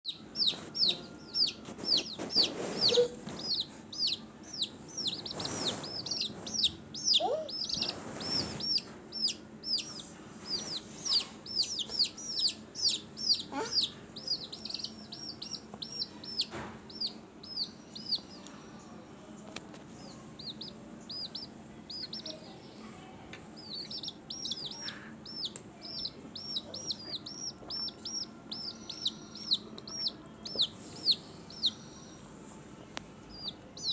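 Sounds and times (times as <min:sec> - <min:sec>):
birds chirping: 0:00.0 - 0:19.0, 0:20.0 - 0:22.9, 0:23.6 - 0:32.3, 0:33.3 - 0:33.9.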